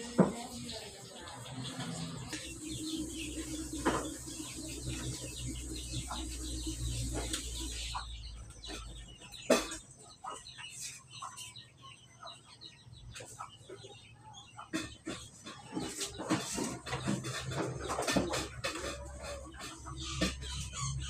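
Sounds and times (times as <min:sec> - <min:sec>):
starlings chirping and clicking: 0:00.1 - 0:21.0.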